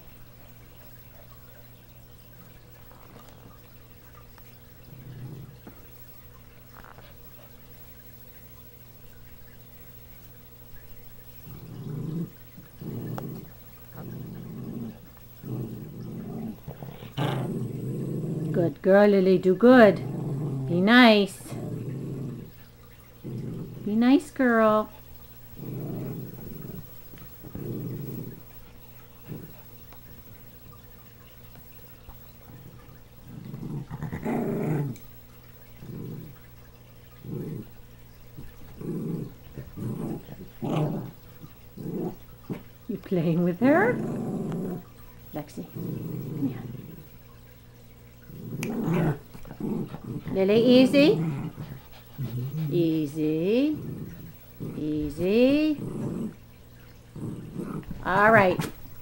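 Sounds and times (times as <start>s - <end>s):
small dog growling: 2.7s - 7.6s, 10.9s - 59.0s.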